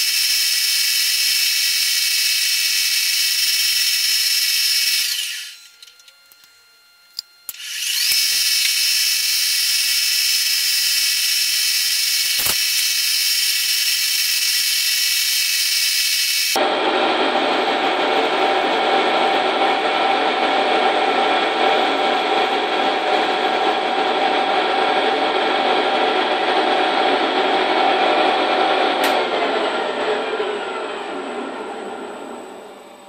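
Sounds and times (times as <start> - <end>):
milling machine whirring: 0.0 - 33.0.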